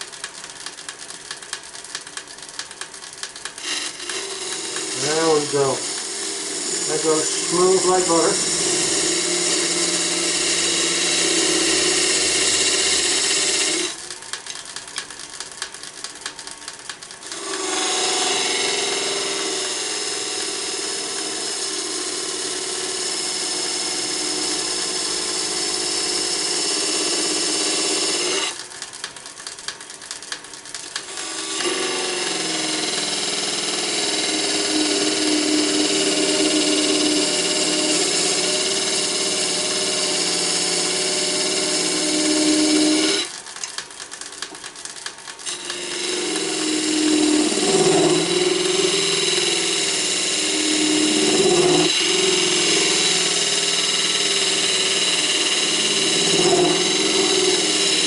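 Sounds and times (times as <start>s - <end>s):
lathe tool cutting wood: 3.4s - 14.3s, 17.2s - 28.6s, 31.0s - 43.4s, 45.4s - 58.0s.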